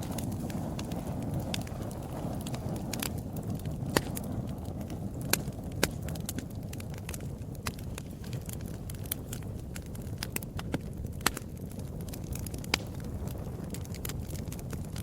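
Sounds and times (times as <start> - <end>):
low rush of flame: 0.0 - 15.0
wood fire crackling and popping: 0.0 - 15.0.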